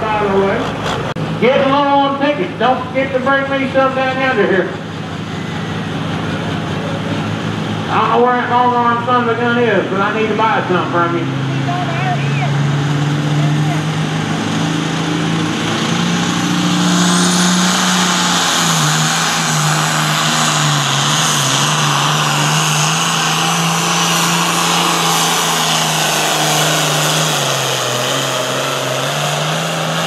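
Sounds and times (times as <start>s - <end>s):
tractor diesel engine under heavy load: 0.0s - 30.0s.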